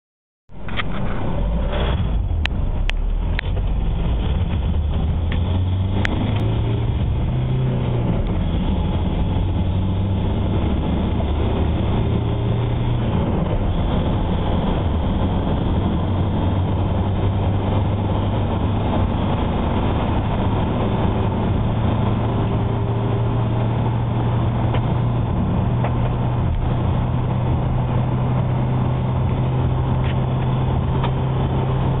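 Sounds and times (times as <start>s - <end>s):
diesel engine at full throttle: 0.5s - 32.0s.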